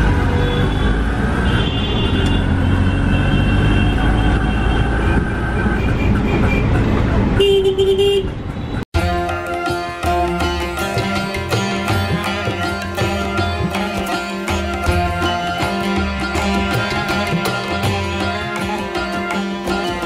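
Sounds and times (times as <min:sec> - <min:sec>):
auto-rickshaw engine rumbling: 0:00.0 - 0:20.0
vehicle horns honking: 0:00.0 - 0:20.0.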